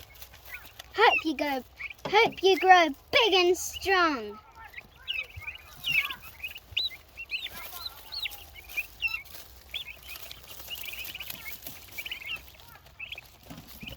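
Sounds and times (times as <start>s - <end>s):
turkey poults peeping: 0.0s - 13.9s.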